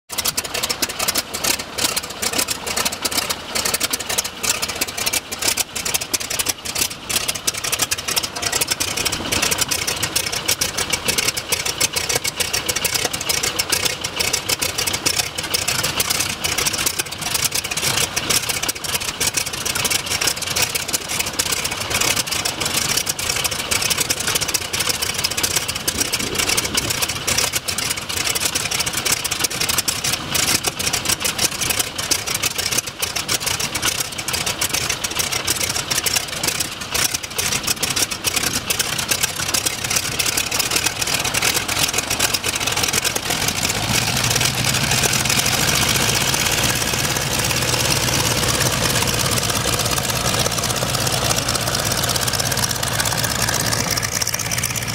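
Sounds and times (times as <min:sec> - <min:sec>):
propeller plane engine idling: 0:00.1 - 0:54.9.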